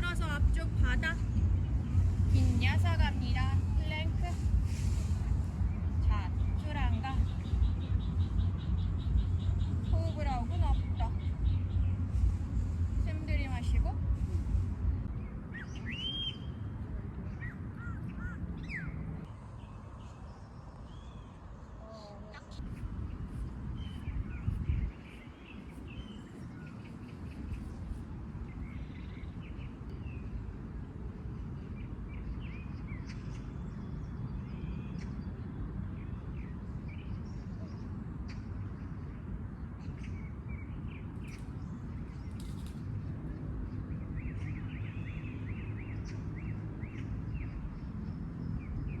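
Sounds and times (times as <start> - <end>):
low outdoor rumble: 0.0 - 49.0
low wind buffet: 0.0 - 49.0
small birds chirping: 0.0 - 49.0.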